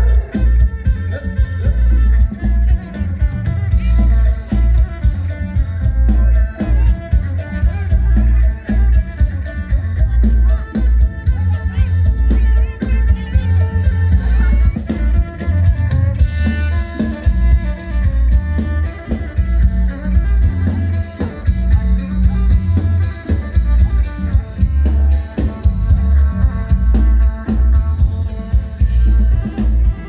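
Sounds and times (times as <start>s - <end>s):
drum kit beat: 0.0s - 30.0s
heavy bass: 0.0s - 30.0s.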